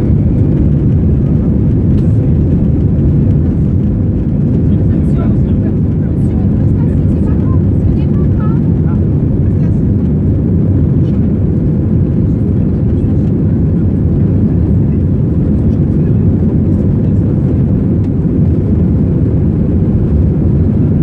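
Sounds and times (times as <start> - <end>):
jet engines and runway rumble: 0.0 - 21.0.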